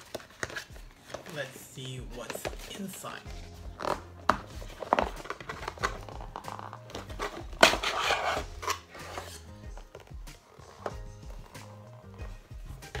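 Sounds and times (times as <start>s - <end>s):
packaging rustling and scraping: 0.0s - 11.0s
background music: 0.0s - 13.0s.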